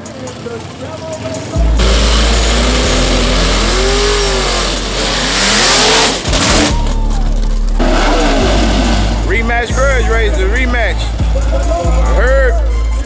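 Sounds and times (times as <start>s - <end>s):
drag racing car engines revving: 0.0s - 13.0s.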